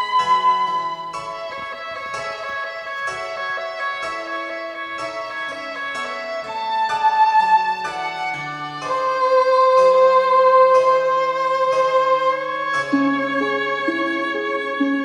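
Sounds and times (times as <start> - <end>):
bowed string melody: 0.0 - 15.0
plucked string accompaniment: 0.0 - 15.0.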